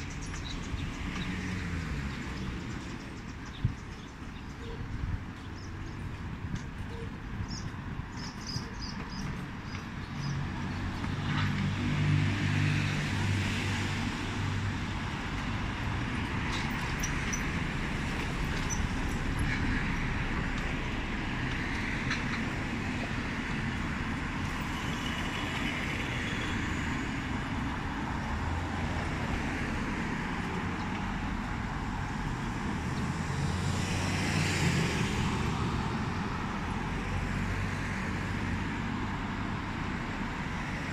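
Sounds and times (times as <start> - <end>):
cars and scooters passing: 0.0 - 40.9.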